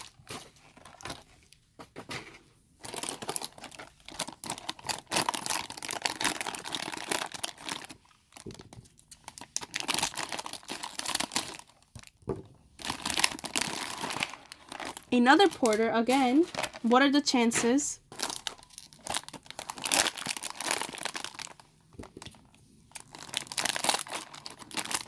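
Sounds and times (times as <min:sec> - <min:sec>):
plastic packaging crinkling and tearing: 0:00.0 - 0:01.6, 0:02.8 - 0:16.9, 0:18.0 - 0:25.0.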